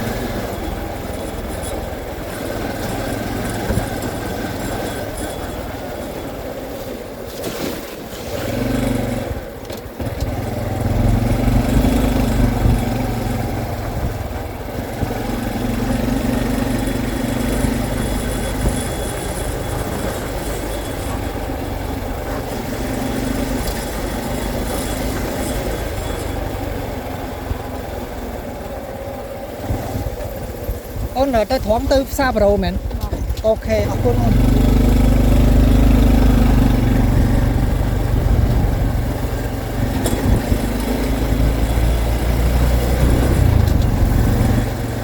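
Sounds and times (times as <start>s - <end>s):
motorcycle engine running: 0.0s - 7.3s, 8.3s - 45.0s.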